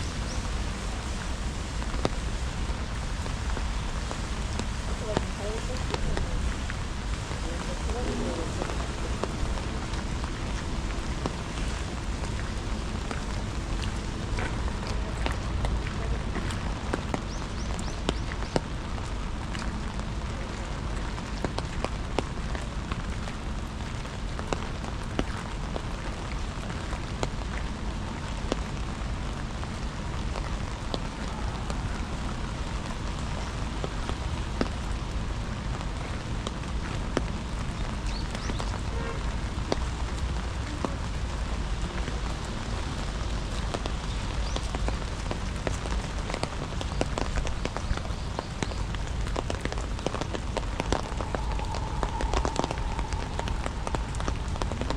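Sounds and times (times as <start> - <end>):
raindrops ticking: 0.0 - 54.9
steady rain: 0.0 - 54.9.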